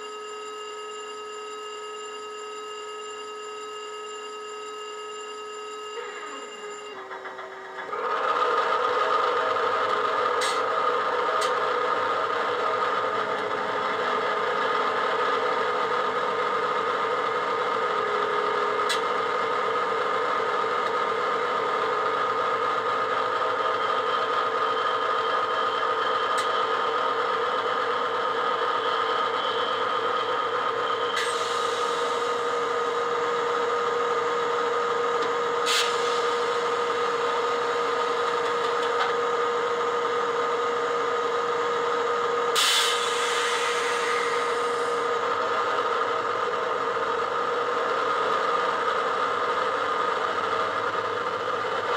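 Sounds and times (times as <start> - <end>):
diesel locomotive idling: 0.0 - 51.9.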